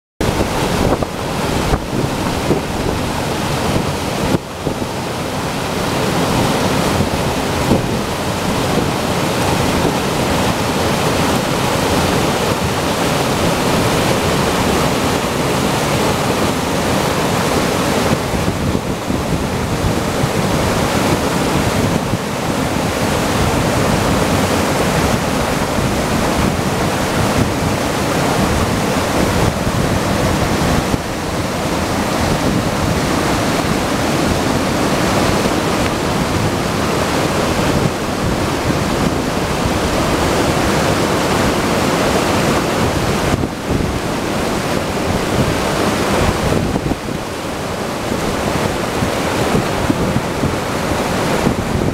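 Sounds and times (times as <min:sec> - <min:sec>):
waterfall rushing: 0:00.2 - 0:51.9.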